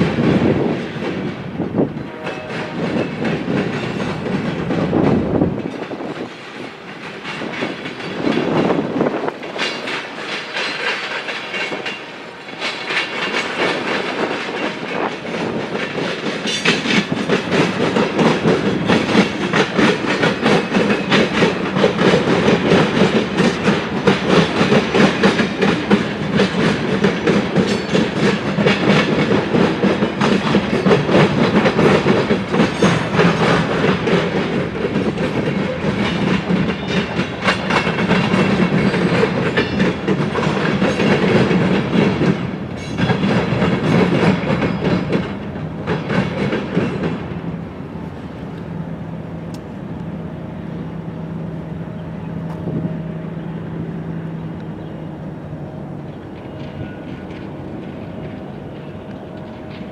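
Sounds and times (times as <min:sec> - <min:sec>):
train wheels clicking over rail joints: 0:00.0 - 0:59.9.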